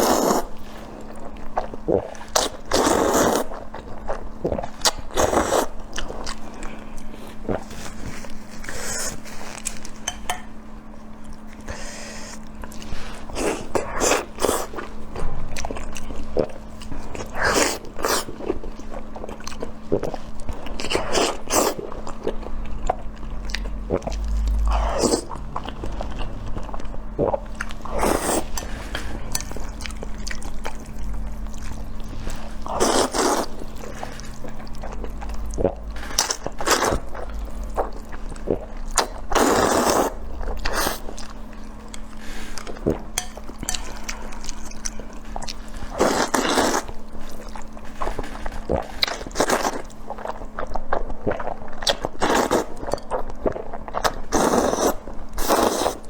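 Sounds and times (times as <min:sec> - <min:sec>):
person chewing food: 0:00.0 - 0:10.6, 0:11.2 - 0:56.0
faint steady hum: 0:00.0 - 0:56.0.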